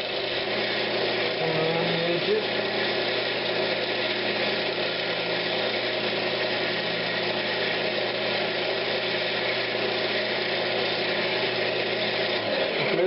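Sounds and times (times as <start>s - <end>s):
tool smoothing spinning wood: 0.0s - 13.0s
wood lathe humming: 0.0s - 13.0s.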